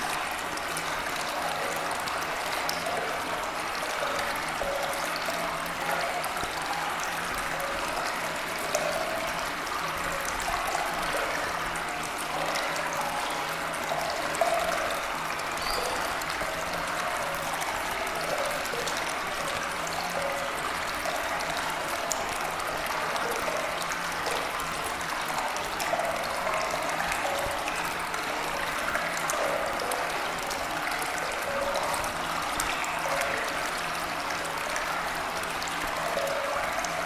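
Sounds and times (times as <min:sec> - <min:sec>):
flowing stream water: 0:00.0 - 0:37.0.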